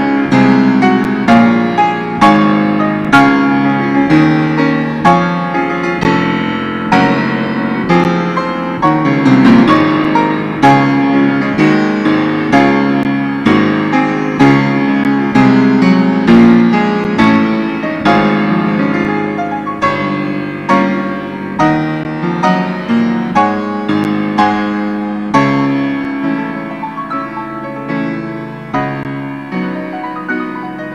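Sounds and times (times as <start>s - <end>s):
grand piano playing: 0.0s - 30.9s.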